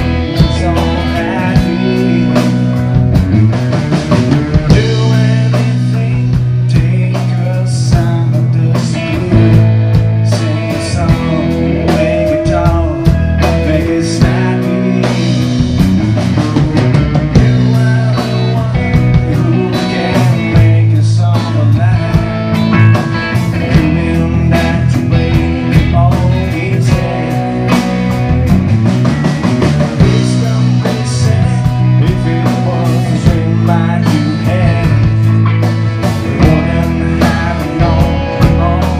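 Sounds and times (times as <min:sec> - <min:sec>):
bass line: 0:00.0 - 0:38.9
rock band playing: 0:00.0 - 0:38.9.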